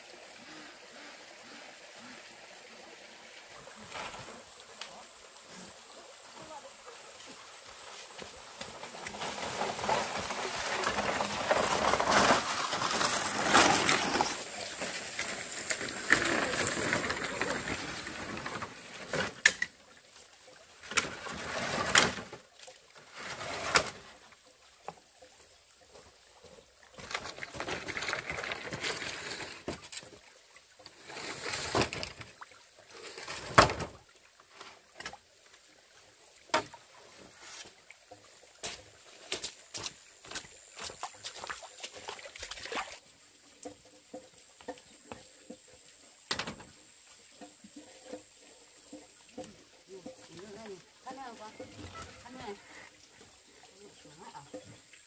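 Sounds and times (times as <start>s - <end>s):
bamboo poles scraping over gravel: 3.5s - 19.8s, 20.8s - 24.2s, 26.8s - 35.3s, 36.4s - 55.0s.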